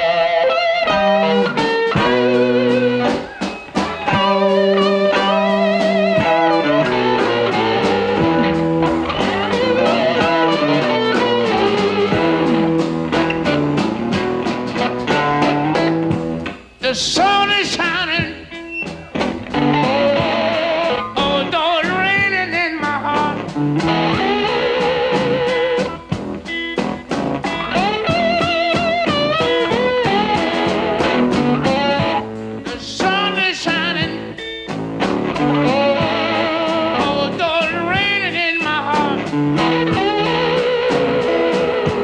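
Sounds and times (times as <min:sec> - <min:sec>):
drums: 0:00.0 - 0:42.0
electric guitar: 0:00.0 - 0:42.0
slide guitar wailing: 0:00.0 - 0:42.0.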